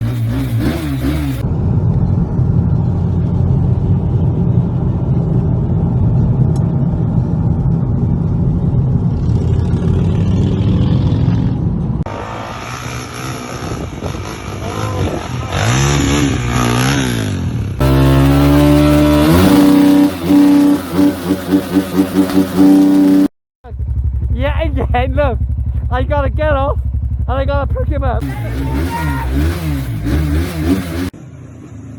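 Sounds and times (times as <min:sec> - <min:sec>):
motorcycle engine revving: 0:00.0 - 0:04.5, 0:08.8 - 0:31.9.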